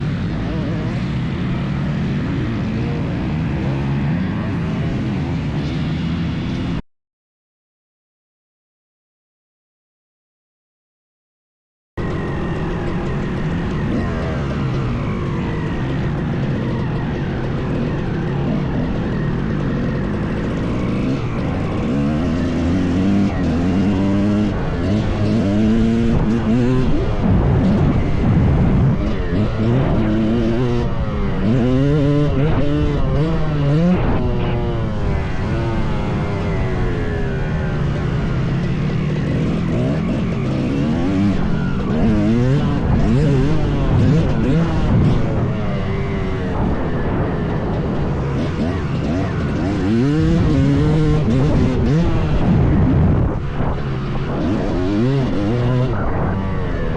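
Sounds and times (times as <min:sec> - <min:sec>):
dirt bike engine revving: 0:00.0 - 0:06.8, 0:12.0 - 0:56.9.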